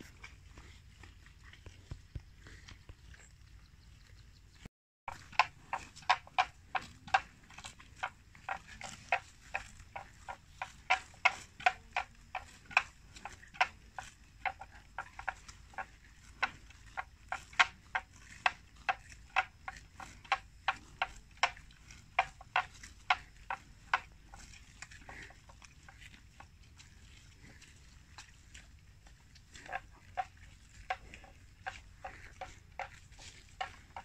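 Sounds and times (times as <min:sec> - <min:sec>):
water buffalo tearing grass: 0:00.0 - 0:03.3, 0:05.1 - 0:34.0.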